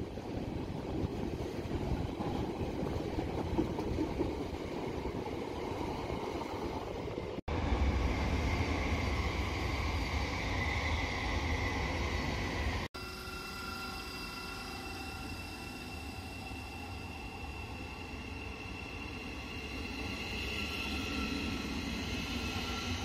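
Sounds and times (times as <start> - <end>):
electric train rumbling and whining: 0.0 - 23.0.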